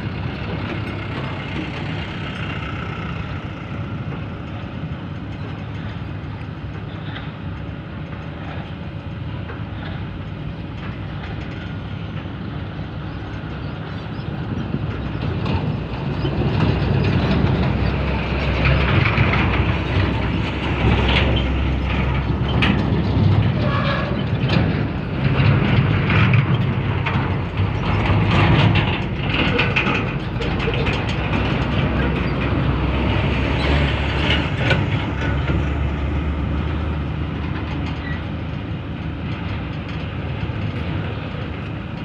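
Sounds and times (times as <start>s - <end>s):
diesel engine running: 0.0s - 42.0s
steel crawler tracks clanking: 0.0s - 42.0s.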